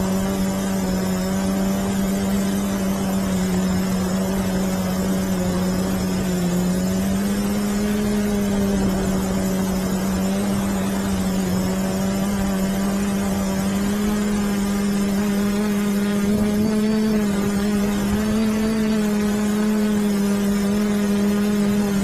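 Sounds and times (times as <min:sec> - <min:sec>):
airy hiss: 0:00.0 - 0:22.0
drone motors buzzing: 0:00.0 - 0:22.0.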